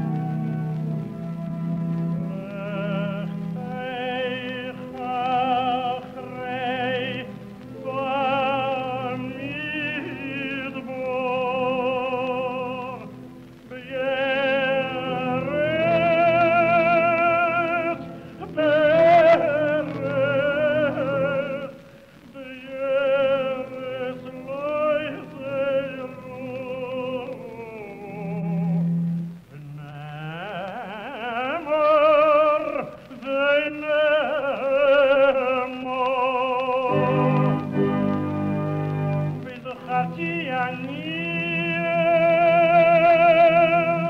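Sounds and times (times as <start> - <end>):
person singing liturgical chant: 0.0 - 44.0.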